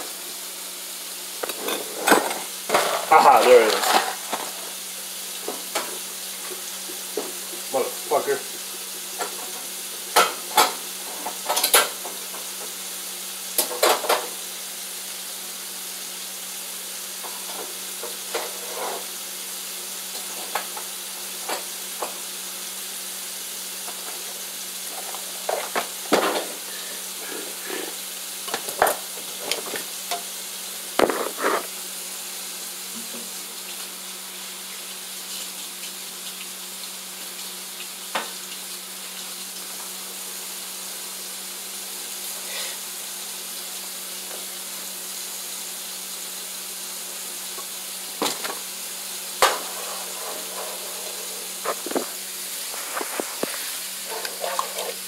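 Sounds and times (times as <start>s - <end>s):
food sizzling in a frying pan: 0.0s - 55.0s.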